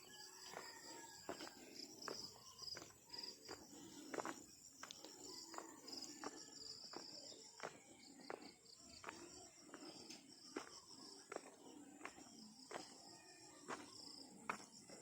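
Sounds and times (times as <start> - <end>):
footsteps on the ground: 0.0 - 15.0
insects chirping: 0.0 - 15.0.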